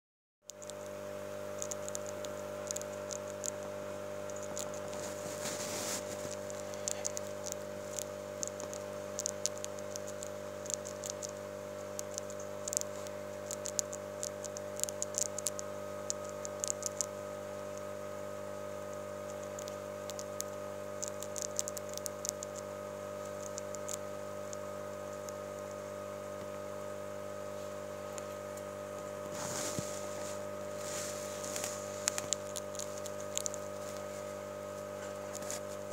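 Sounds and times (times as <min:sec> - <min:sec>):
electrical hum: 0:00.4 - 0:35.9
rat gnawing and crunching: 0:00.5 - 0:35.9.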